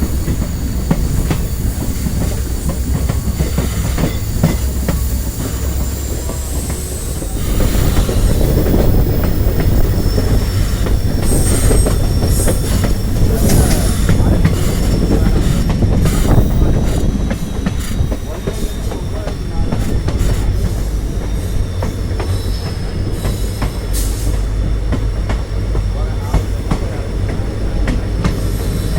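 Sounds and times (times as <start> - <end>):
train rumbling: 0.0 - 28.9
train wheels squealing: 0.0 - 28.9.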